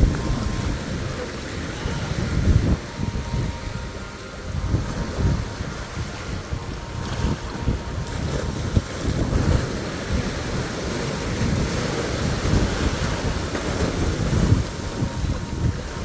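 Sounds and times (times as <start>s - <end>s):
waves washing on beach: 0.0s - 16.0s
wind buffeting microphone: 0.0s - 16.0s.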